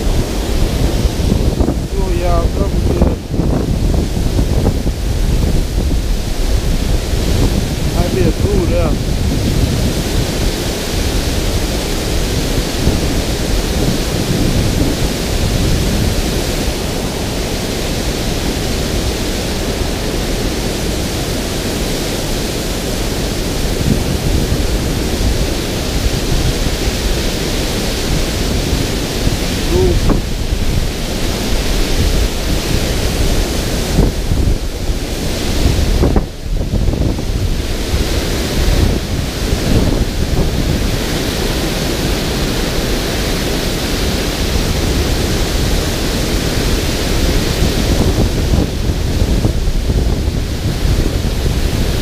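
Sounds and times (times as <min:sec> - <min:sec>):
water rushing over dam spillway: 0:00.0 - 0:52.0
wind rumbling on microphone: 0:00.0 - 0:52.0.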